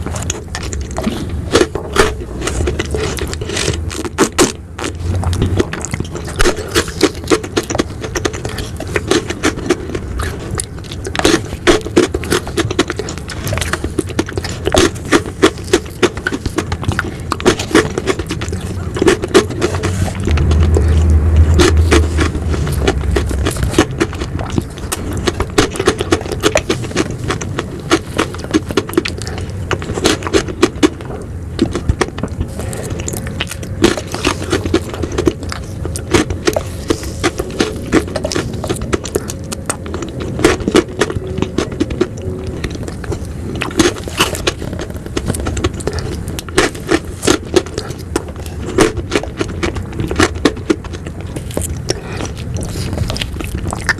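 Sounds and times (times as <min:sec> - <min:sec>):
low rumble: 0:00.0 - 0:53.9
wet mouth clicks eating: 0:00.0 - 0:53.9.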